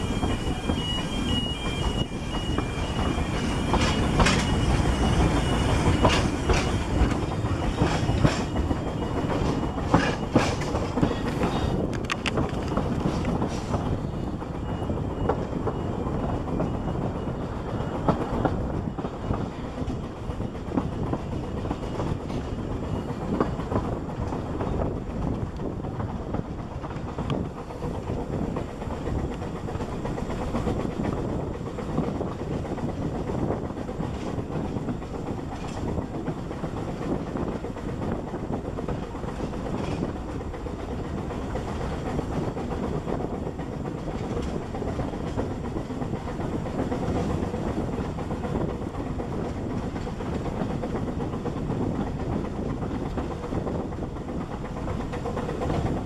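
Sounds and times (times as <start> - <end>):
train carriage rumbling: 0.0 - 56.0
wheels clicking over rail joints: 1.8 - 56.0.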